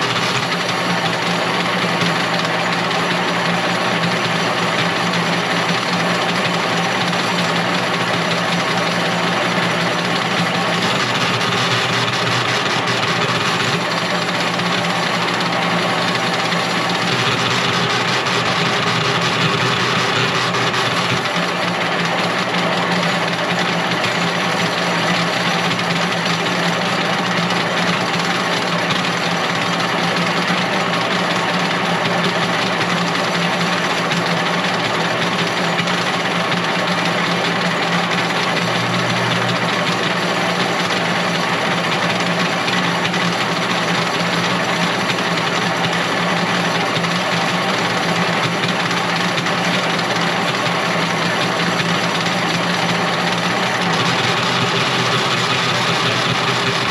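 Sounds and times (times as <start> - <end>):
engine humming steadily: 0.0 - 56.9.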